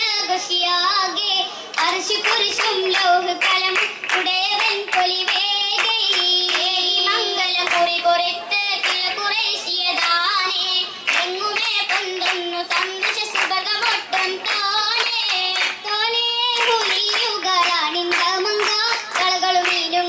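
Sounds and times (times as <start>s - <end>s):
women singing: 0.0s - 20.0s
rhythmic hand claps: 1.7s - 20.0s.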